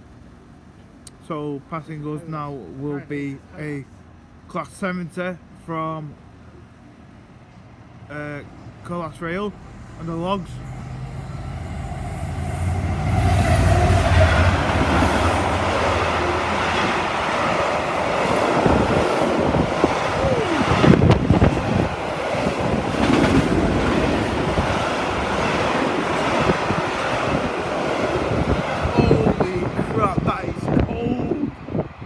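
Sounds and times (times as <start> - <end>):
diesel locomotive engine hum: 0.0 - 32.0.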